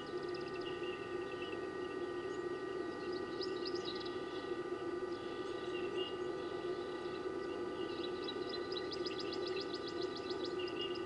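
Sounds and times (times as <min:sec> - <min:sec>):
small birds chirping: 0:00.0 - 0:11.0
steady hum: 0:00.0 - 0:11.0.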